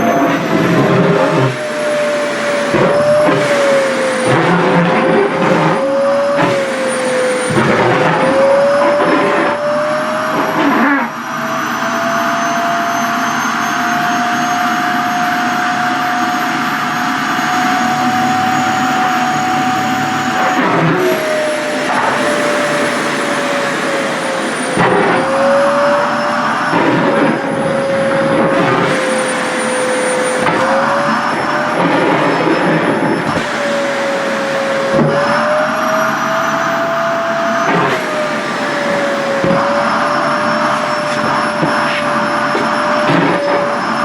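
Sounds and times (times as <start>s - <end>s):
vacuum cleaner motor whining: 0.0s - 44.0s.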